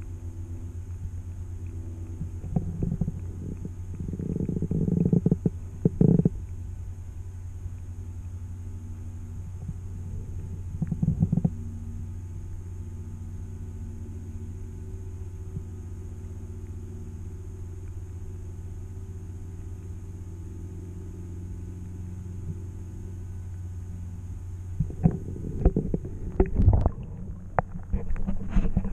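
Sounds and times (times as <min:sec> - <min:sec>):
faint high whine: 0:00.0 - 0:28.9
muffled underwater rumble: 0:00.0 - 0:28.9.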